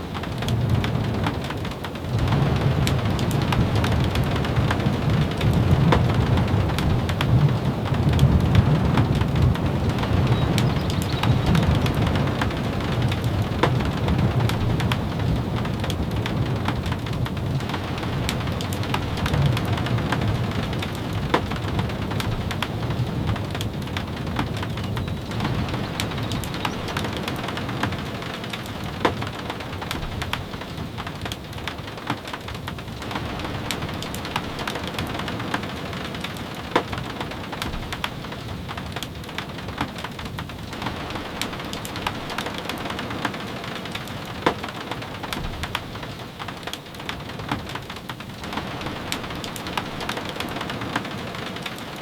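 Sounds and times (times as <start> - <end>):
steady rain: 0.0 - 52.0
thunder rumbling: 0.0 - 52.0.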